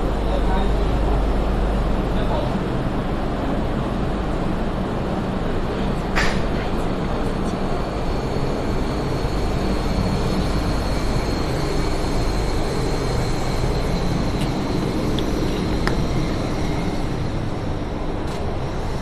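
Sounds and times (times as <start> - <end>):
factory machinery drone: 0.0 - 19.0.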